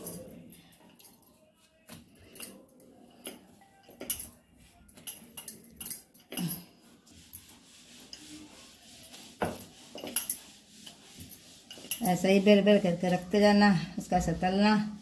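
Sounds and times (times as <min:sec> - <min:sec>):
rolling pin rolling dough: 0:01.2 - 0:15.0.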